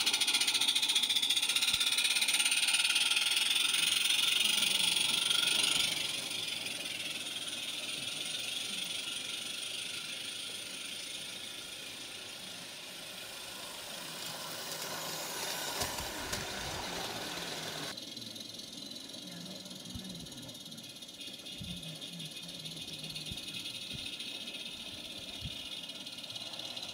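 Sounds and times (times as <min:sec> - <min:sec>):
steam locomotive hissing: 0:00.0 - 0:26.9
wheels rattling on track: 0:00.0 - 0:26.9.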